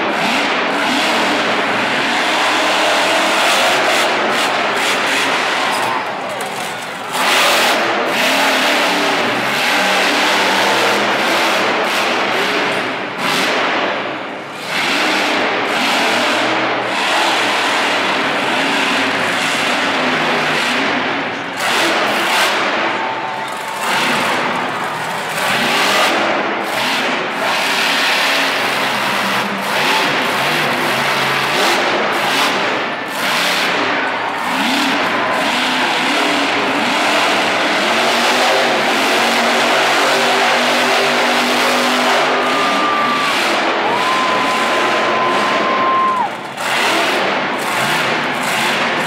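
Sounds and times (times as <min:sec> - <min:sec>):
monster truck engine revving: 0:00.0 - 0:49.0.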